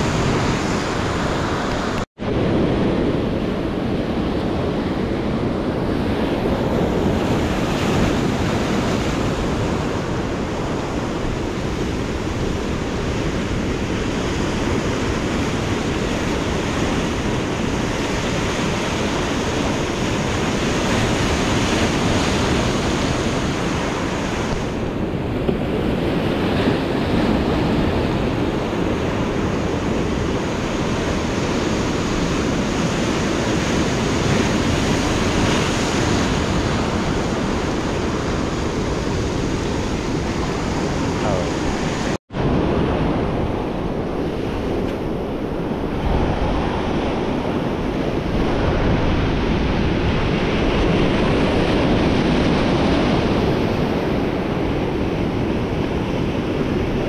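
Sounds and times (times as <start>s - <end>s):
surf washing over rocks: 0.0s - 57.0s
wind buffeting microphone: 0.0s - 57.0s.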